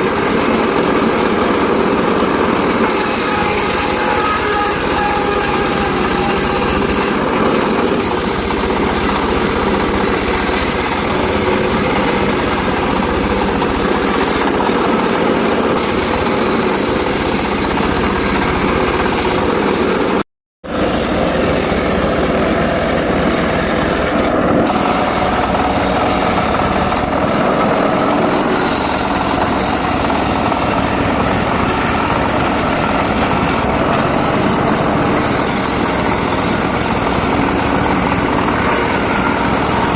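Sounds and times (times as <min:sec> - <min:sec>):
circular saw cutting timber: 0:00.0 - 0:39.9.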